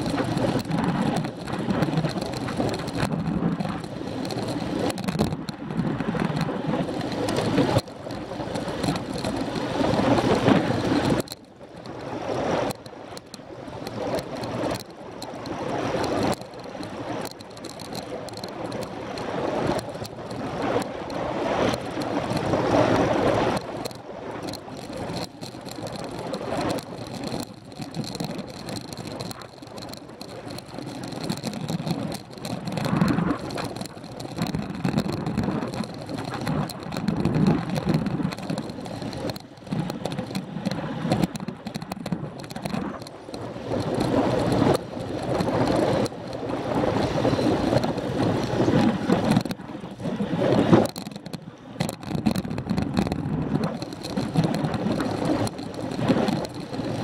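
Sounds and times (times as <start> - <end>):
wind rushing over microphone: 0.0 - 11.4, 13.6 - 57.0.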